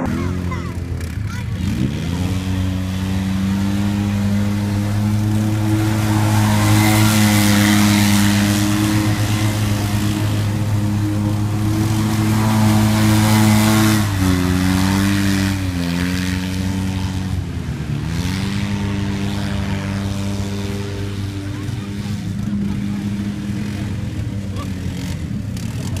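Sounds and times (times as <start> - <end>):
utility vehicle engine running hard: 0.0 - 26.0.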